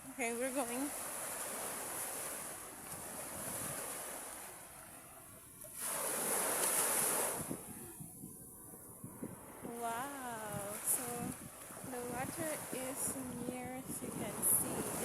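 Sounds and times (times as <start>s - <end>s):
sea waves on a beach: 0.0s - 15.0s.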